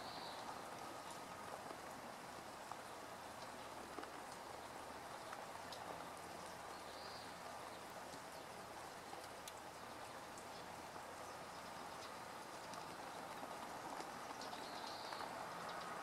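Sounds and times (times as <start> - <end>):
light ticks: 0.0 - 16.0
outdoor background hiss: 0.0 - 16.0.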